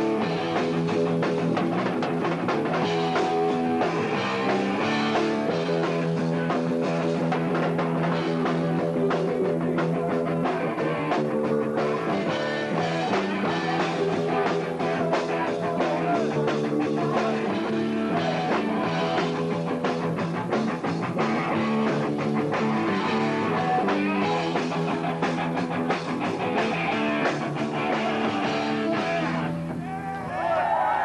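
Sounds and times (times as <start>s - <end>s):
heavy metal band playing: 0.0s - 30.5s.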